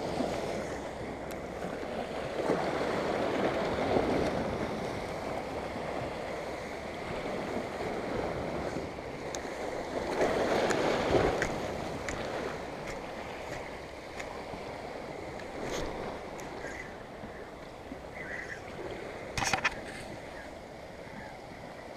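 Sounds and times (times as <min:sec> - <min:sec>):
sea waves against rocks: 0:00.0 - 0:21.9.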